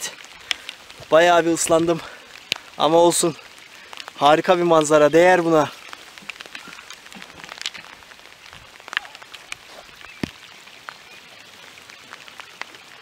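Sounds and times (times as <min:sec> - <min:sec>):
raindrops tapping: 0:00.0 - 0:13.0
steady rain: 0:00.0 - 0:13.0.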